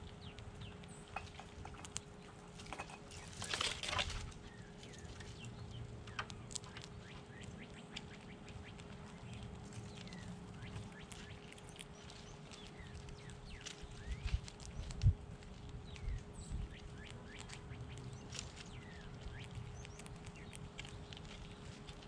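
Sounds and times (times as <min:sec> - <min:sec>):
birds chirping: 0:00.0 - 0:22.0
faint steady hum: 0:00.0 - 0:22.0.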